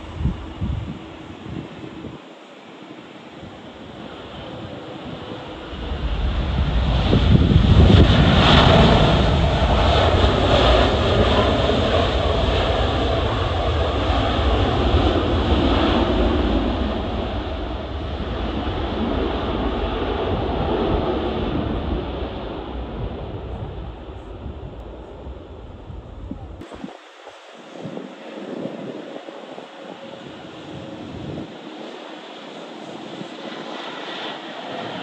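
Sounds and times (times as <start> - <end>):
wind buffeting microphone: 0.0 - 2.4, 3.2 - 35.0
jet engines passing: 0.0 - 35.0.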